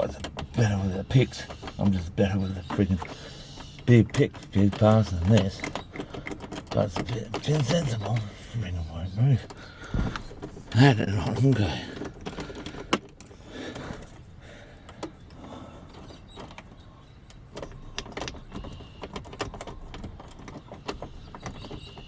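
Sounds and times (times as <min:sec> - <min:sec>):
lock pick clicking and scraping: 0:00.0 - 0:08.7, 0:11.3 - 0:14.3, 0:14.9 - 0:22.0.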